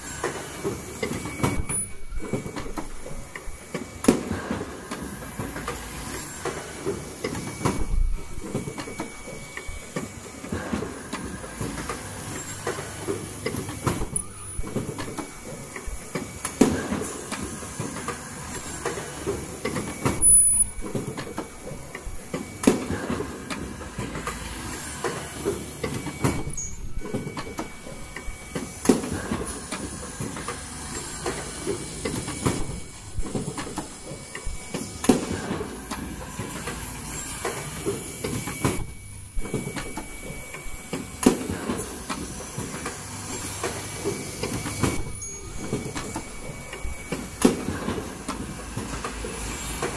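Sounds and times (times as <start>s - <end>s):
machine clacks: 0.0s - 49.9s
machine clattering: 0.0s - 49.9s.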